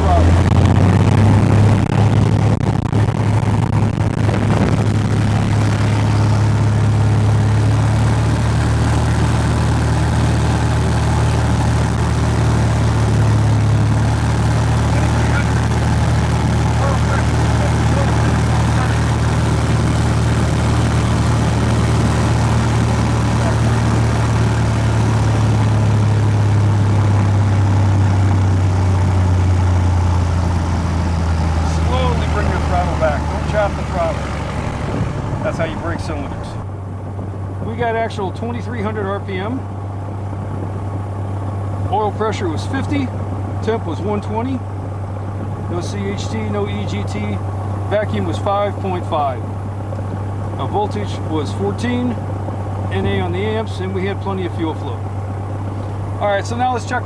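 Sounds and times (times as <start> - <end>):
propeller plane engine running: 0.0 - 57.0.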